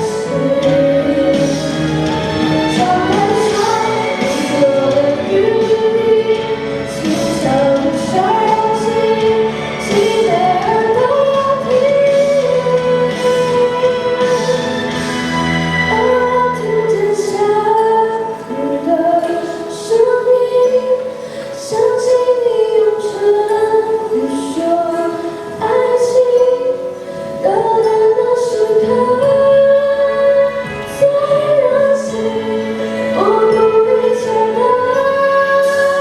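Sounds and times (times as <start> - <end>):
instrumental accompaniment: 0.0 - 36.0
person singing: 0.0 - 36.0.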